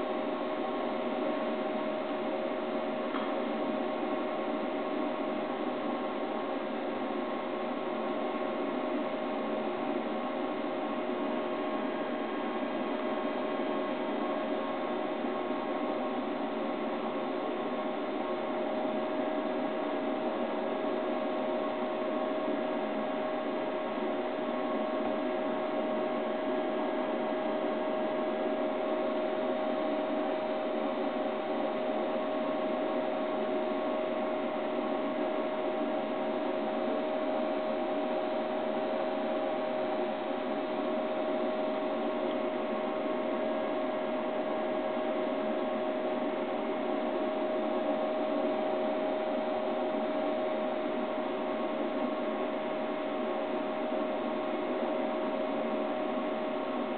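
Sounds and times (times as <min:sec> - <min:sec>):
mid-pitched hum tone: 0:00.0 - 0:56.9.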